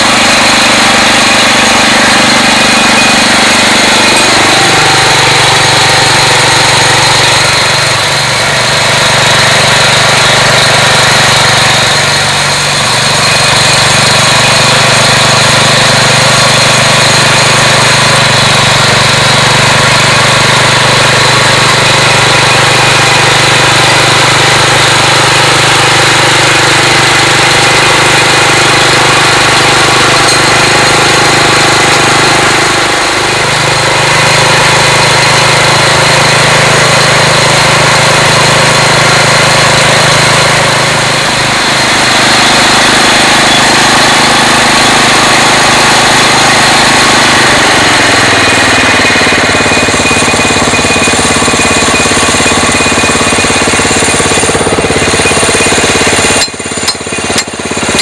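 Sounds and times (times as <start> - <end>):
auger rig engine running: 0.0 - 58.0.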